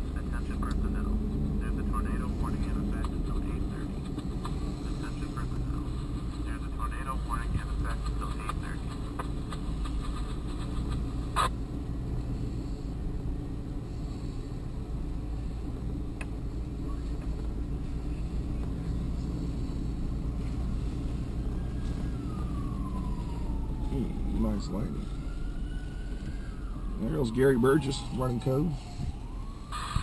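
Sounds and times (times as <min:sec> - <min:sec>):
emergency siren wailing: 0:00.0 - 0:30.0
vehicle engine running: 0:00.0 - 0:30.0.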